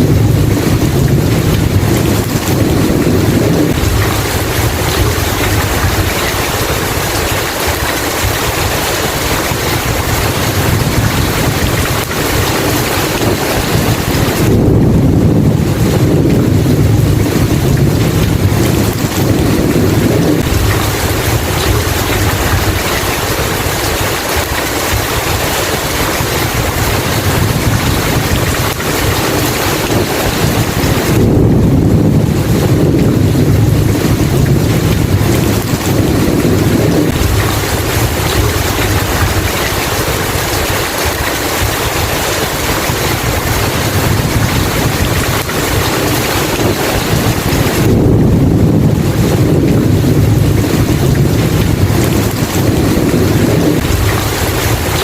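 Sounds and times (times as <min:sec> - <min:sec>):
heavy rain: 0:00.0 - 0:55.0
rolling thunder: 0:00.0 - 0:55.0.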